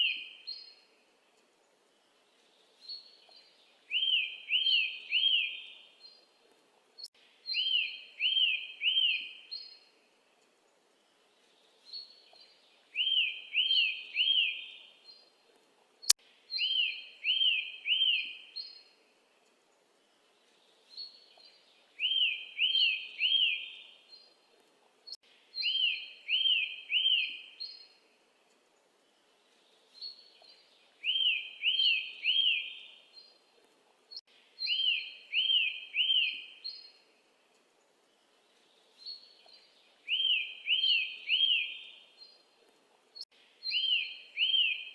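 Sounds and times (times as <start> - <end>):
bird chirping: 0.0 - 6.4, 7.0 - 44.9.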